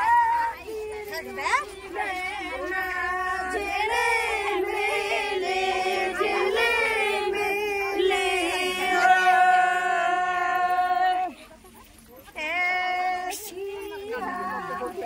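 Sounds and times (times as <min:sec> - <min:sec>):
women singing in unison: 0:00.0 - 0:11.4, 0:12.4 - 0:15.0.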